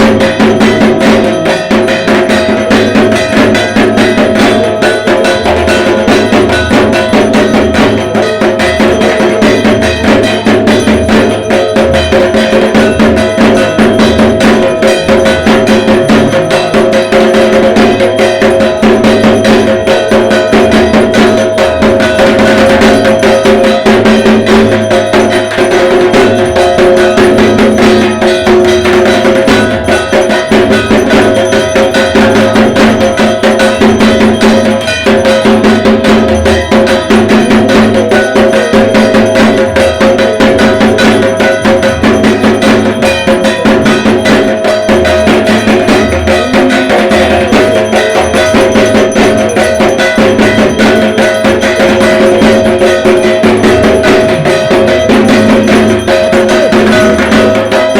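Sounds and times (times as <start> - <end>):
barrel drum played fast: 0.0 - 57.9
metallic ringing tone: 0.0 - 57.9.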